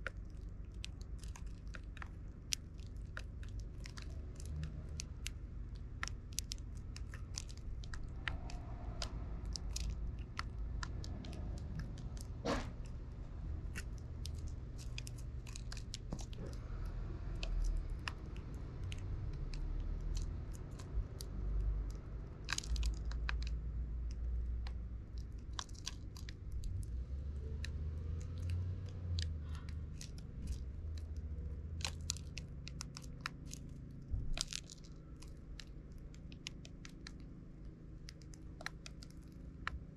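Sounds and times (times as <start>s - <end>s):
low rumble: 3.1s - 35.7s.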